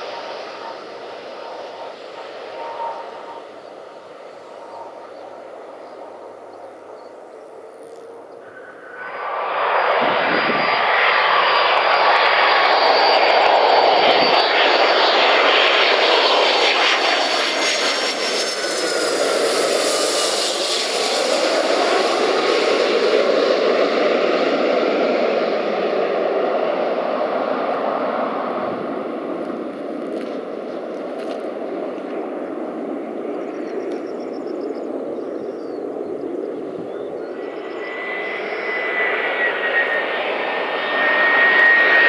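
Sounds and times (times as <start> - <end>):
jet engines passing overhead: 0.0 - 42.0.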